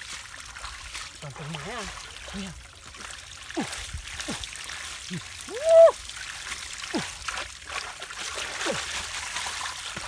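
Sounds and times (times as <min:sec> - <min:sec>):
mud and water squelching: 0:00.0 - 0:10.0.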